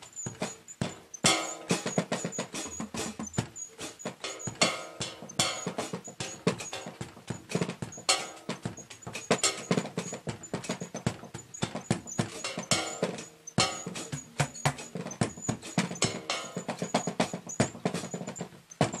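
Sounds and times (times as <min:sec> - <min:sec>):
damped drum kit thuds: 0:00.0 - 0:19.0.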